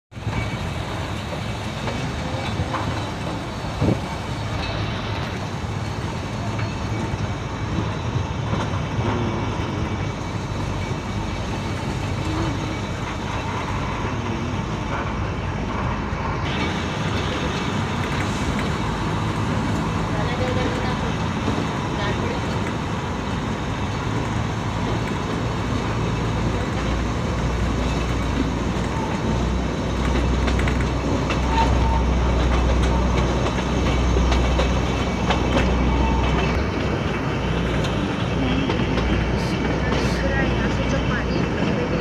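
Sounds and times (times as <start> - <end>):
diesel locomotive drone: 0.0 - 42.0
train wheels rumbling and rattling: 0.1 - 42.0.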